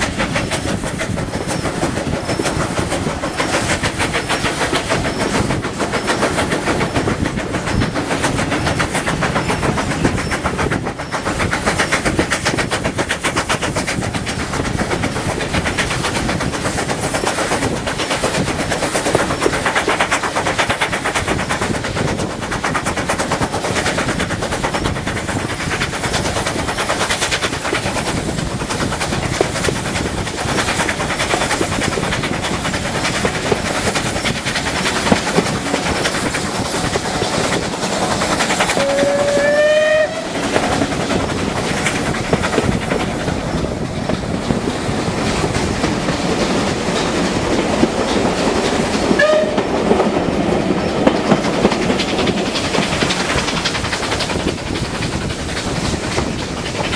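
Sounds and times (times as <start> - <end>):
steam locomotive exhaust beats: 0.0 - 56.9
train wheels clattering on rails: 0.0 - 56.9.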